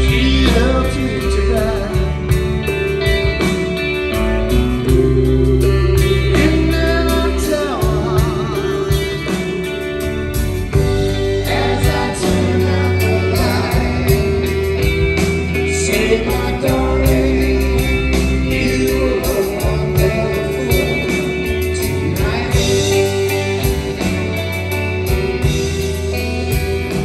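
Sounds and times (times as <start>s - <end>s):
person singing lead vocals: 0.0s - 24.8s
drum kit: 0.0s - 27.0s
electric guitar: 0.0s - 27.0s.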